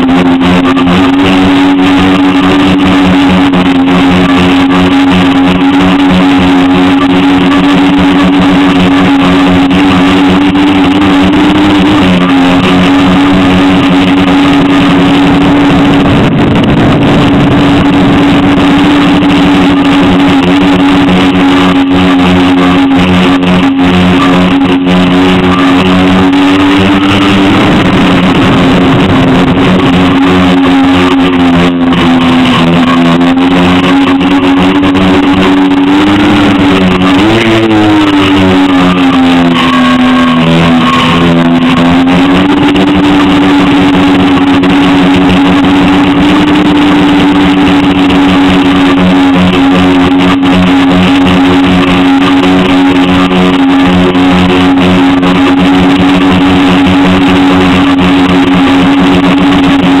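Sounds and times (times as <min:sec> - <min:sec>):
drone motors buzzing: 0:00.0 - 1:00.0.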